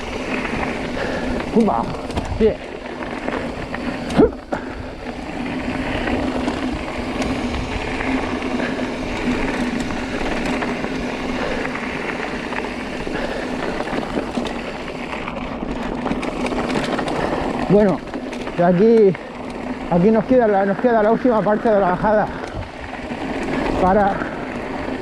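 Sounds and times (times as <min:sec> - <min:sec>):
bike tyres rattling on gravel: 0:00.0 - 0:25.0.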